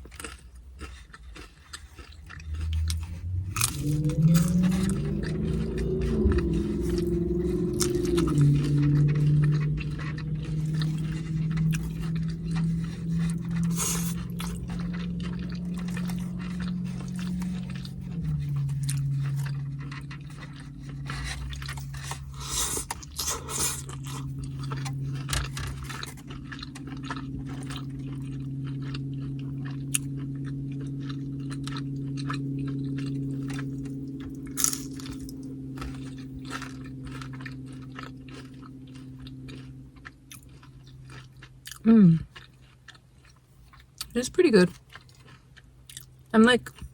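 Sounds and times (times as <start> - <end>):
chewing crunchy chips: 0.0 - 46.9
low steady hum: 0.0 - 46.9.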